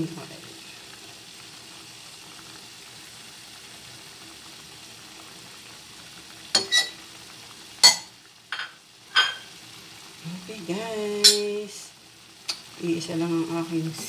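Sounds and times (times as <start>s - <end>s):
hiss of oil on cooking pot: 0.0s - 14.0s.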